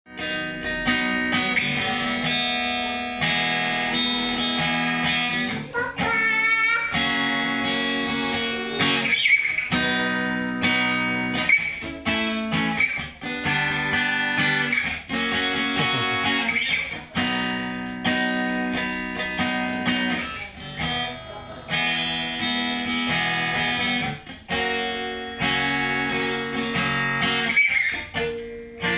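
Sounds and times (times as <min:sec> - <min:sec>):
guitar strummed chords: 0:00.1 - 0:28.9
sliding guitar notes: 0:00.1 - 0:28.9.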